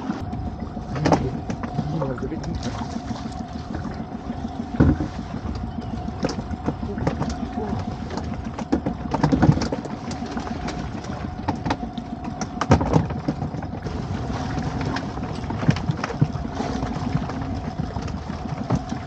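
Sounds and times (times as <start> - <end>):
outboard engine idling: 0.0 - 19.0
knocks and clatter of fish handling: 0.2 - 19.0.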